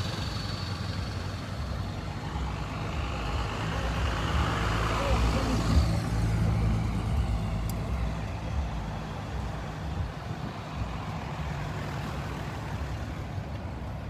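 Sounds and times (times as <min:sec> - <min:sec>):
cars and trucks driving past: 0:00.0 - 0:14.0.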